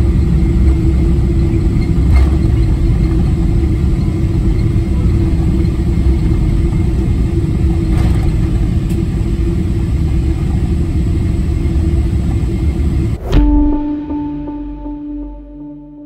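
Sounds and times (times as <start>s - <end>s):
jet engines rumbling: 0.0s - 15.8s.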